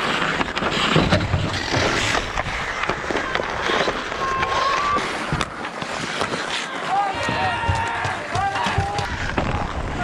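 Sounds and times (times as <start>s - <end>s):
hockey sticks clacking: 0.0s - 9.7s
skate blades scraping ice: 0.0s - 10.0s.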